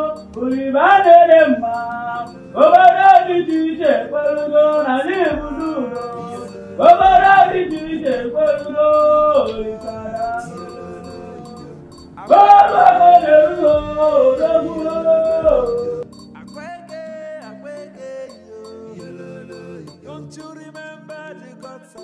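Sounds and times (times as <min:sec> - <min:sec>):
film music melody: 0:00.0 - 0:22.0.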